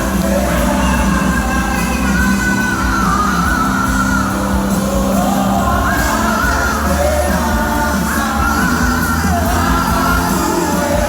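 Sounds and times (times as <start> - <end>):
person singing: 0.0 - 11.0
worship band playing: 0.0 - 11.0.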